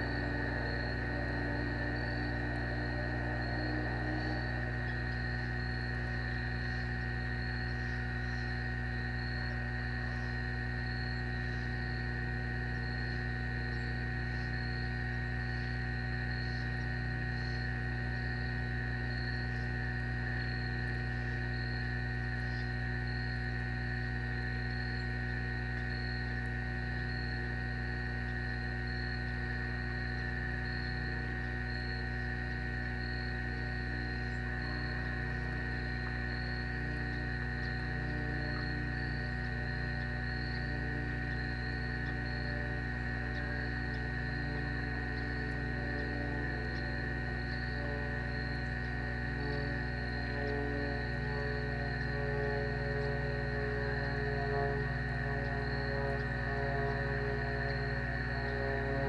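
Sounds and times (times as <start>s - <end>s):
crickets chirping: 0.0s - 59.0s
steady electrical hum: 0.0s - 59.0s.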